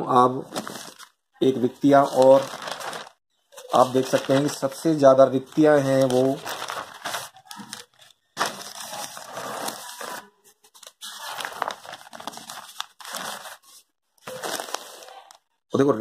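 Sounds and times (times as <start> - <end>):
newspaper pages rustling: 0.5 - 15.4.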